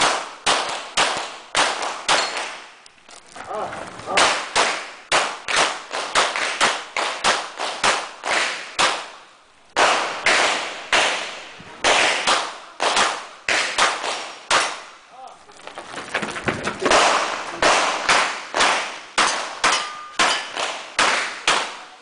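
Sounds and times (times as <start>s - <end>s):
pistol gunshots: 0.0s - 2.7s, 4.1s - 9.2s, 9.8s - 14.9s, 16.8s - 21.9s.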